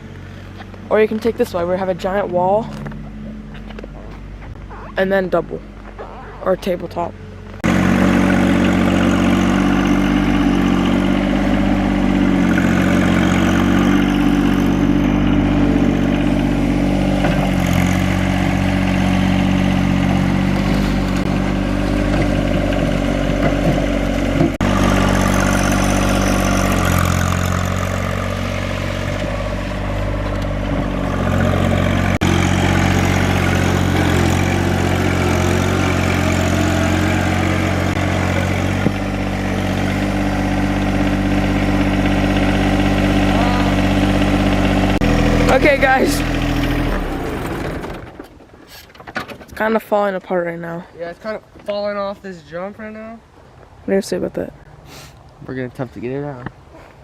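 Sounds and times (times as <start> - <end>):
tractor engine running: 0.0 - 50.1.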